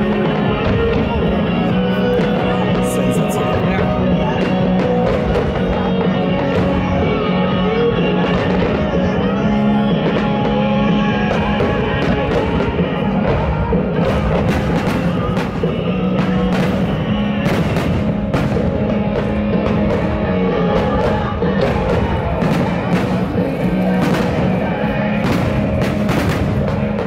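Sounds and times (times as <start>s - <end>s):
fireworks bangs and crackles: 0.0s - 27.0s
rock music over loudspeakers: 0.0s - 27.0s.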